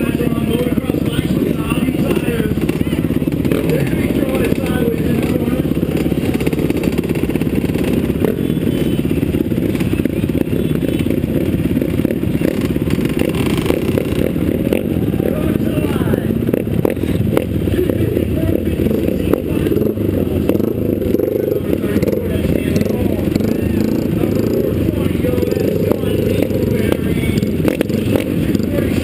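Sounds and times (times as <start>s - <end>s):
motorcycle engine chugging: 0.0s - 29.0s
motorcycle engines racing: 0.0s - 29.0s.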